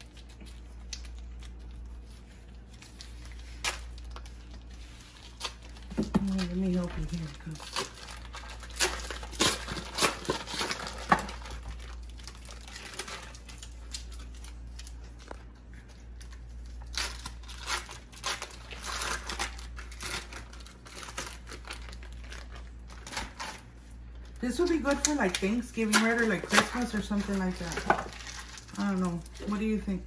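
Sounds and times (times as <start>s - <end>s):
foil wrapper crinkling: 0.0s - 30.0s.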